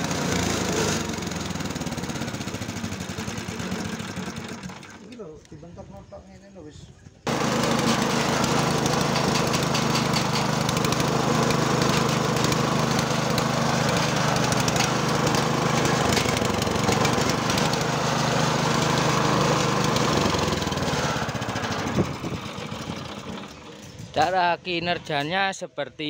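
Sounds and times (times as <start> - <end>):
small petrol engine running: 0.0 - 5.2, 7.3 - 24.1.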